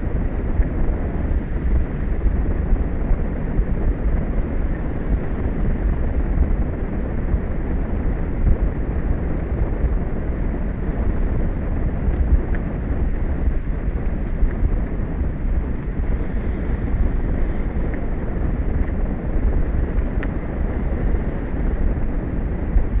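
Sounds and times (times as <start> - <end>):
wind blowing on microphone: 0.0 - 23.0.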